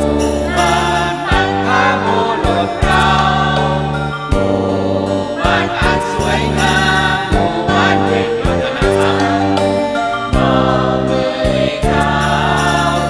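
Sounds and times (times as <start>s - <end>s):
group singing: 0.0s - 13.0s
held bass notes: 0.0s - 13.0s.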